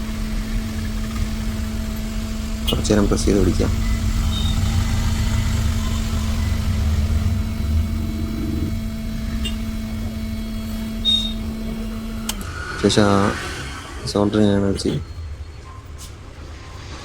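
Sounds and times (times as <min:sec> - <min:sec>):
hot-air blower fan humming: 0:00.0 - 0:17.0.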